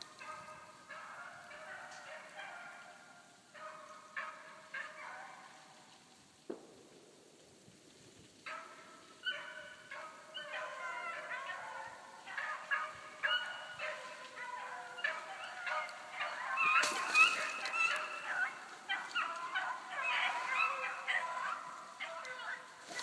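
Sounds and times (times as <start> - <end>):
hounds baying: 0.0 - 5.8, 8.4 - 23.0.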